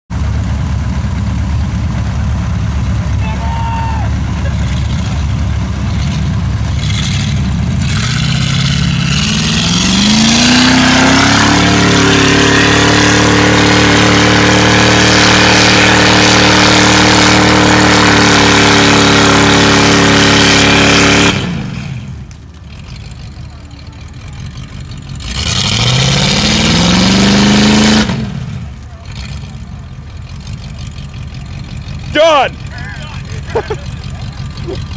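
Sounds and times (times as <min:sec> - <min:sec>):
tires spinning in mud: 0:00.1 - 0:34.9
truck engine revving: 0:00.1 - 0:34.9.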